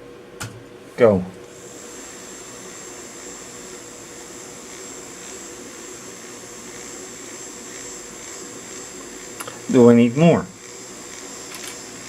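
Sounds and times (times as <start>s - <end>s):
small electric motors whining: 1.5s - 12.0s.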